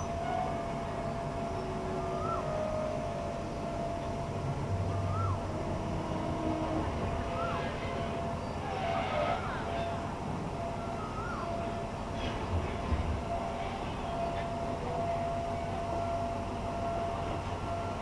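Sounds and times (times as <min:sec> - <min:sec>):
faint constant tone: 0:00.0 - 0:18.0
train wheels rumbling: 0:00.0 - 0:18.0.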